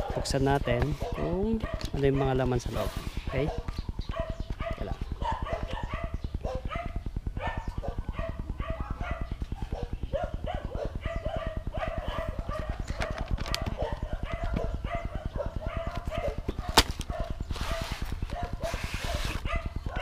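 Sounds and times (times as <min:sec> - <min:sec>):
rapid low pulsing: 0:02.6 - 0:20.0.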